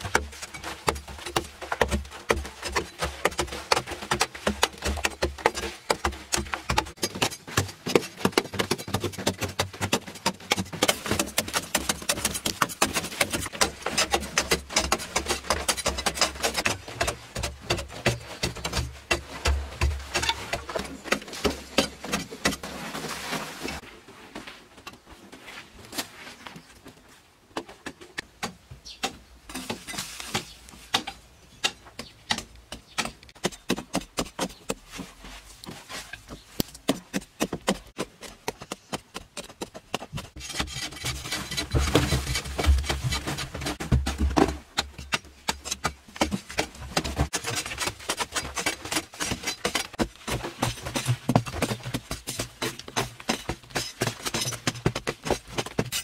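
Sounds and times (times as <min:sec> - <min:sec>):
hand tools digging in earth: 0:00.0 - 0:23.9, 0:28.4 - 0:56.0
soil being shovelled: 0:00.0 - 0:24.6, 0:29.5 - 0:31.1, 0:33.0 - 0:56.0.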